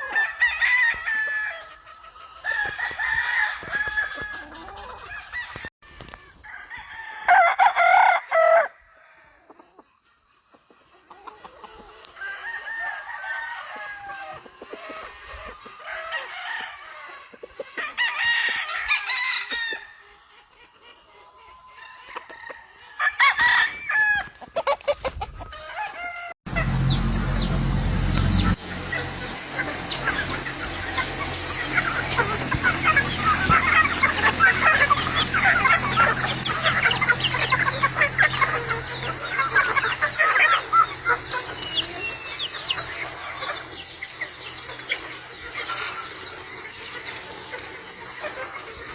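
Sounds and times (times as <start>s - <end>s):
chickens clucking: 0.0s - 6.4s, 9.5s - 13.0s, 14.0s - 19.0s, 20.0s - 22.9s, 24.3s - 48.9s
roosters crowing: 0.0s - 9.5s, 12.0s - 20.2s, 21.5s - 48.9s.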